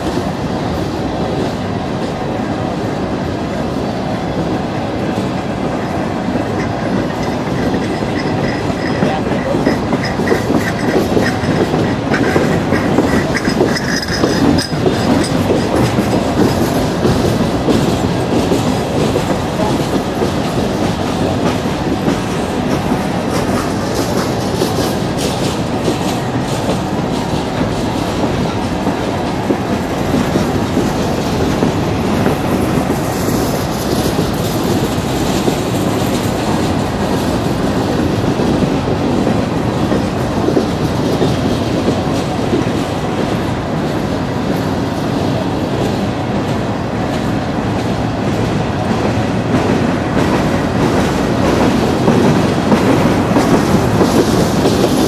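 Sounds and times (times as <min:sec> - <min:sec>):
train wheels rumbling on rails: 0:00.0 - 0:55.0
wheels clickety-clack on rail joints: 0:00.0 - 0:55.0.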